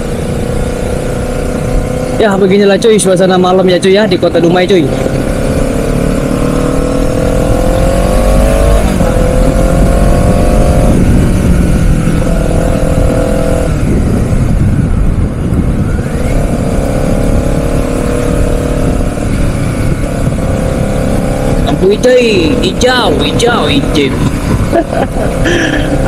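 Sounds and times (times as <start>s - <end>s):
motorcycle engine accelerating: 0.0s - 26.0s
wind rumble on microphone: 4.7s - 26.0s.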